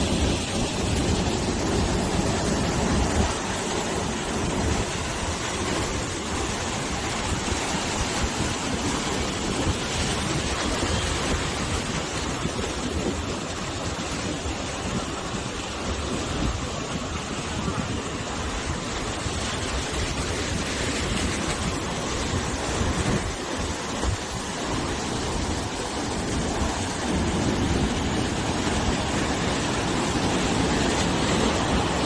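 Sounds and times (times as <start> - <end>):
waves washing on rocky shore: 0.0 - 32.0
wind rumble: 0.0 - 32.0.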